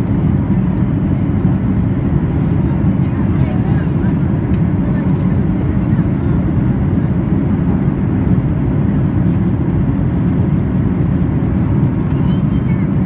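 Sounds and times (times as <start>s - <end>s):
airplane cabin engine roar: 0.0s - 13.0s.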